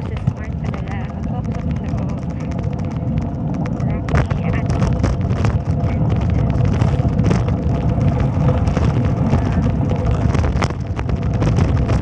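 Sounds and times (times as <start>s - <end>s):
vehicle engine drone: 0.0s - 12.0s
wind buffeting microphone: 0.0s - 12.0s.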